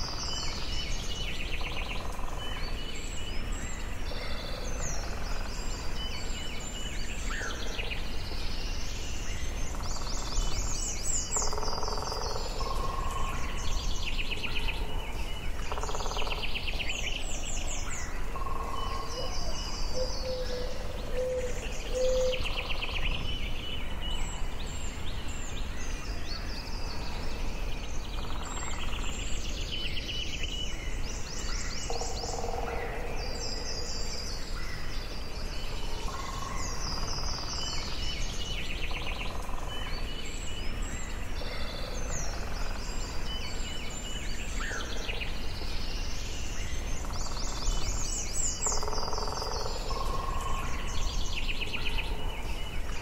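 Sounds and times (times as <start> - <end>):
birds singing and calling: 0.0 - 53.0.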